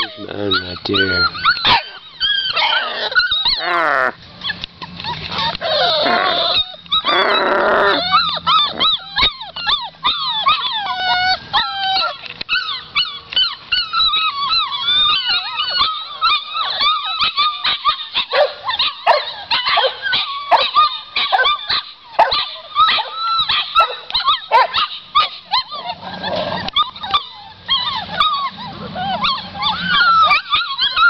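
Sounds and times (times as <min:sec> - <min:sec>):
puppies whining and yelping: 0:00.0 - 0:31.0.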